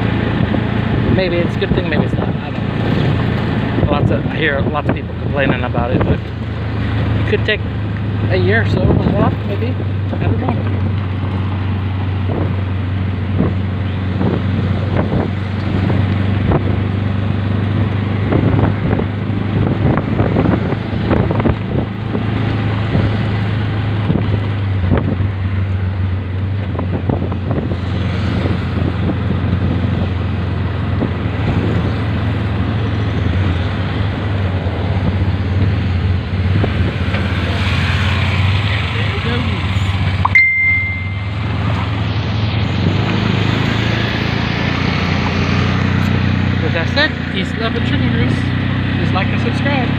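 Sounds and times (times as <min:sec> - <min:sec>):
wind on microphone: 0:00.0 - 0:07.2, 0:07.9 - 0:38.9, 0:40.9 - 0:46.6
vehicle engine running: 0:00.0 - 0:49.9.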